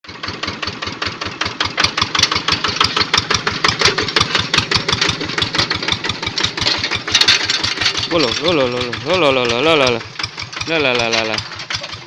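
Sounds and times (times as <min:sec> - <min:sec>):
hand tractor engine running: 0:00.0 - 0:12.0.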